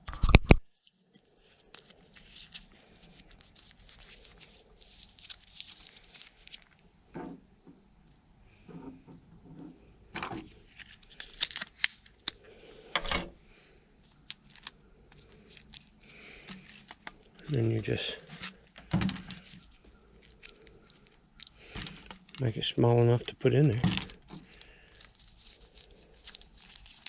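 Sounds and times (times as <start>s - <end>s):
rustling and crinkling: 0.0s - 7.4s, 8.5s - 27.0s.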